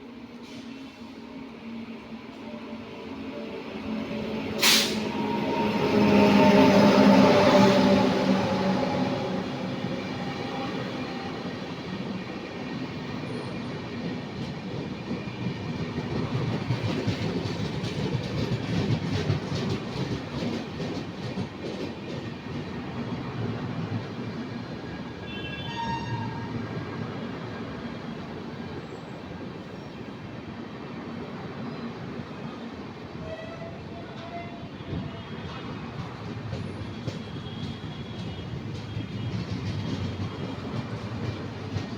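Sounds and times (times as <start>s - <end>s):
train rumbling past: 0.0s - 41.9s.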